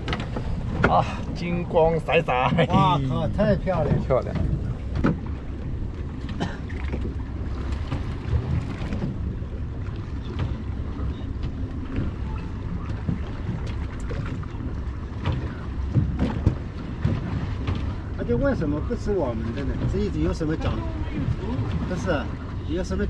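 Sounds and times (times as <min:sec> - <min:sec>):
boat engine rumble: 0:00.0 - 0:23.0.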